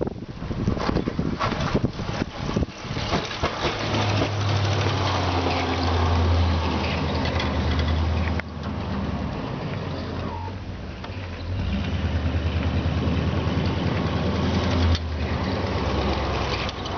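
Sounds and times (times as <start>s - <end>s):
truck engine humming: 1.8s - 16.9s.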